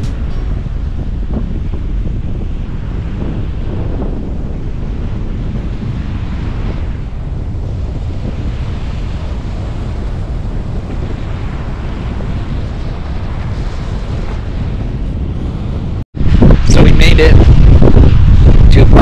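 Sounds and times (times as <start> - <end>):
surf washing on beach: 0.0 - 19.0
wind buffeting microphone: 0.0 - 19.0.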